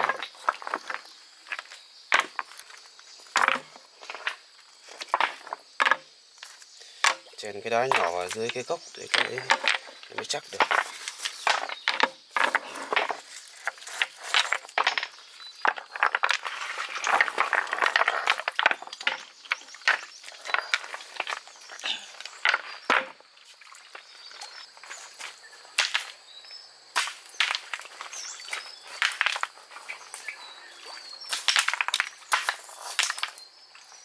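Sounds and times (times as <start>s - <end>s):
stones and wood knocking: 0.0s - 23.3s, 23.9s - 26.2s, 26.9s - 30.5s, 31.3s - 33.5s.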